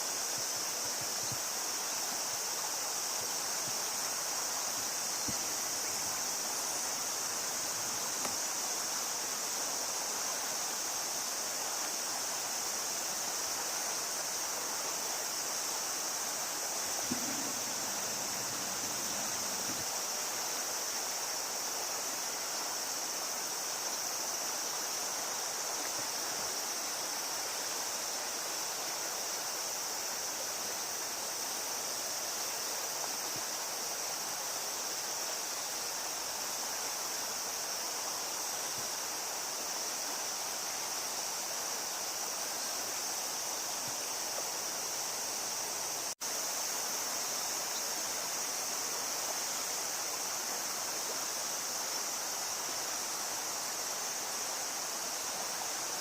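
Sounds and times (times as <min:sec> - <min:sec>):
constant high hiss: 0:00.0 - 0:56.0
river water rushing: 0:00.0 - 0:56.0.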